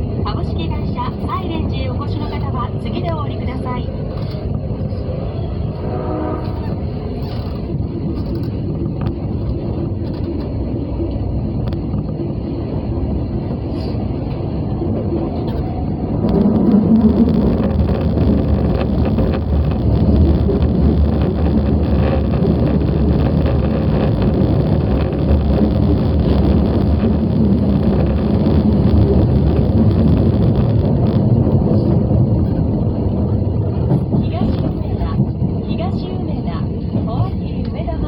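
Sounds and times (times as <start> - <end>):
subway train wheels rumbling: 0.0 - 38.0.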